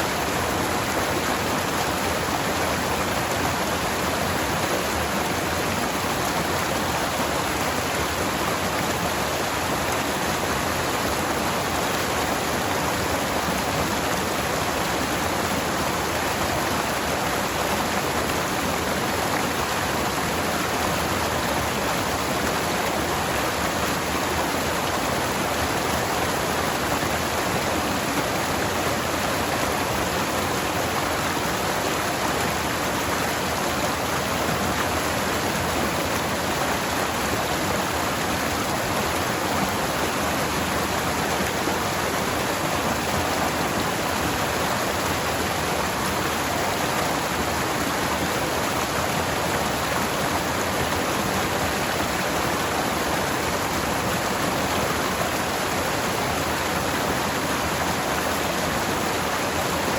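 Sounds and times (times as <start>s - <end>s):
stream running over rocks: 0.0s - 59.9s.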